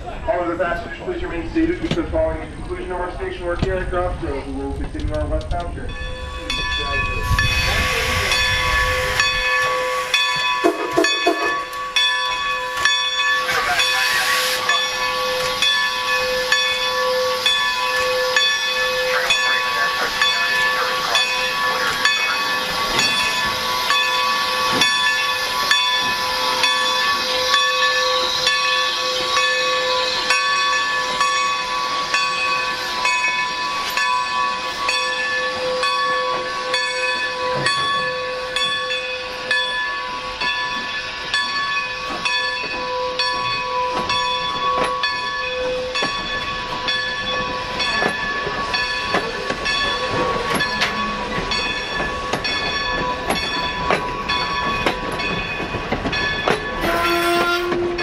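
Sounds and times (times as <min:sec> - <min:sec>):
steam locomotive hissing steam: 0:06.2 - 0:58.0.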